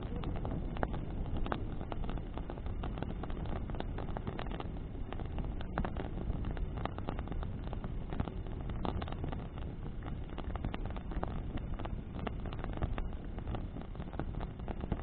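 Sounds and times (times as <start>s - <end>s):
burning wood crackling and popping: 0.0s - 15.0s
flame and wind rushing: 0.0s - 15.0s.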